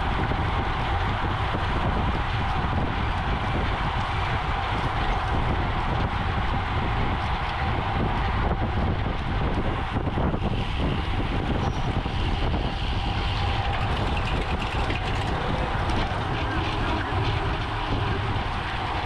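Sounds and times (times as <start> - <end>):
bicycle road rumble: 0.0 - 19.0
wind rush over microphone: 0.0 - 19.0.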